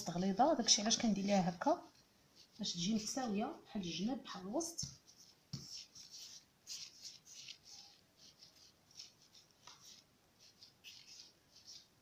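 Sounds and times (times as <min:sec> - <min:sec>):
hands rolling dough swishes: 0:00.8 - 0:12.0.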